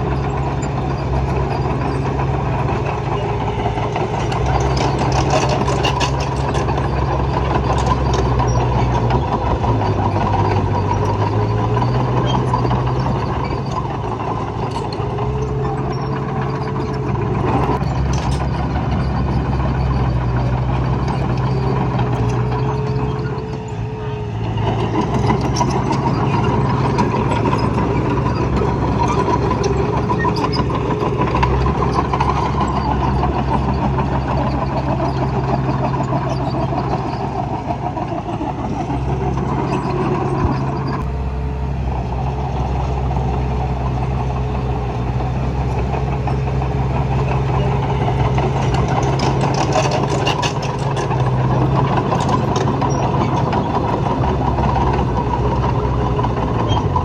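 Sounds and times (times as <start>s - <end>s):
heavy machinery diesel engine: 0.0s - 57.0s
metallic rattling and clanking: 0.3s - 23.7s, 24.4s - 41.1s, 45.1s - 57.0s.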